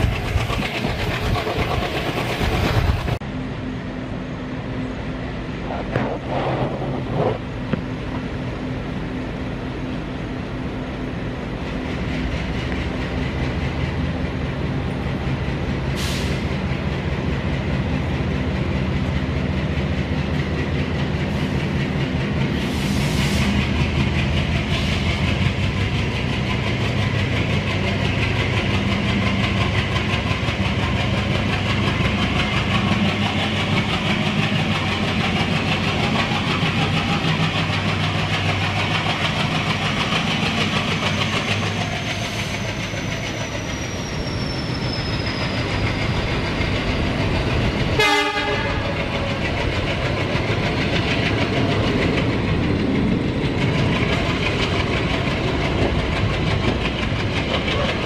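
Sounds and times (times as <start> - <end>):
train wheels clicking over rails: 0.0 - 3.2, 11.2 - 58.0.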